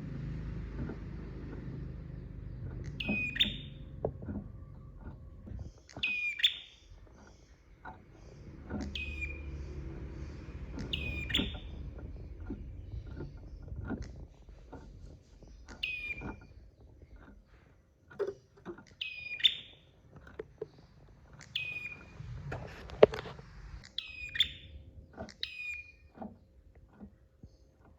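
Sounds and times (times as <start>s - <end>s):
bird calling: 0.0s - 17.6s, 18.8s - 23.1s, 23.8s - 26.1s
faint clicks: 0.5s - 24.5s.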